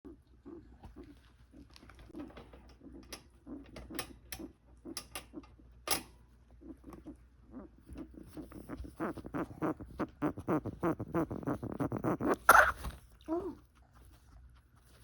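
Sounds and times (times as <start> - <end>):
guinea pig hooting: 0.1 - 15.0.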